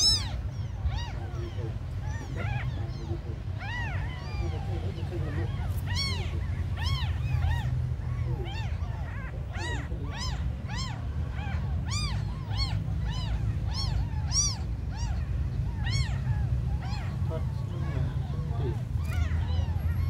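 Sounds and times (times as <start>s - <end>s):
kittens mewing: 0.0s - 20.0s.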